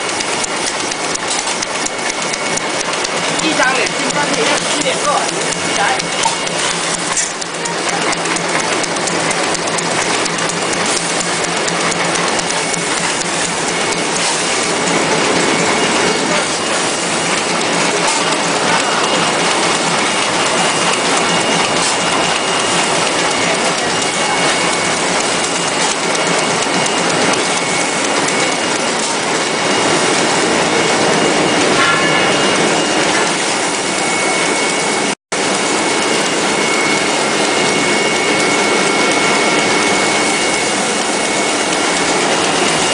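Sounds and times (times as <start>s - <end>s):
machine clattering: 0.0s - 42.9s
faint high steady tones: 1.9s - 9.2s, 10.1s - 42.9s.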